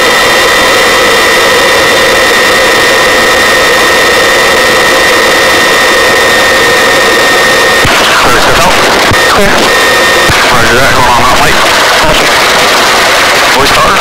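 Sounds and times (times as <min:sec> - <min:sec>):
helicopter rotor rush: 0:00.0 - 0:14.0
high turbine whine: 0:00.0 - 0:14.0.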